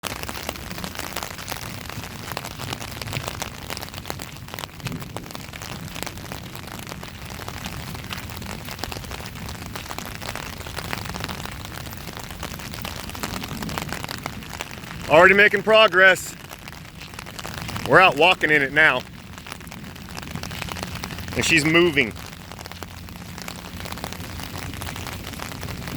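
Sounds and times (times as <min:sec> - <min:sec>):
raindrops ticking: 0:00.0 - 0:25.9
steady rain falling: 0:00.0 - 0:25.9.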